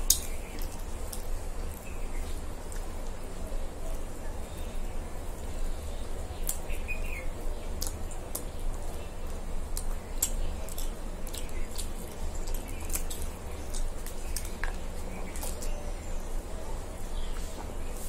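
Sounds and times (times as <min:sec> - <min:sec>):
people chewing pizza: 0:00.0 - 0:18.0
steady low hum: 0:00.0 - 0:18.0.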